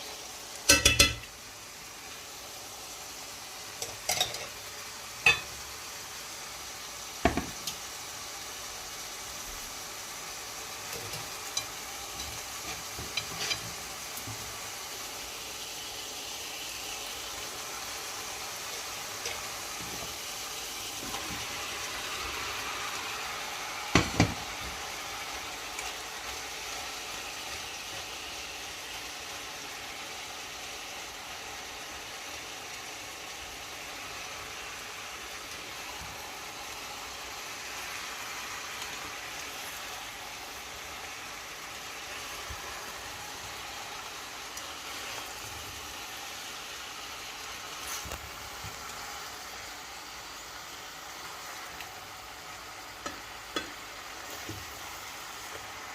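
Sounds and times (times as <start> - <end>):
food sizzling in a pot: 0.0 - 55.9.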